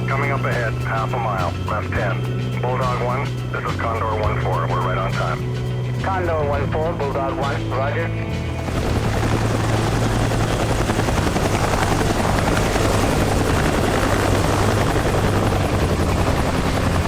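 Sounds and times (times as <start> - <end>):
helicopter engine noise: 0.0 - 17.0
helicopter rotor chop: 0.0 - 17.0.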